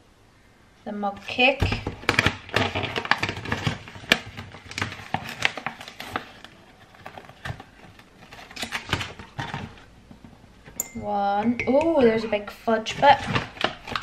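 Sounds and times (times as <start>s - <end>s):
packet rustling: 1.2s - 10.7s, 11.8s - 14.0s.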